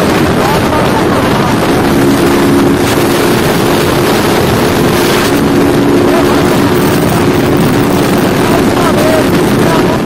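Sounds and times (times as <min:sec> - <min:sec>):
motorcycle engine droning: 0:00.0 - 0:10.0
wind rush on microphone: 0:00.0 - 0:10.0.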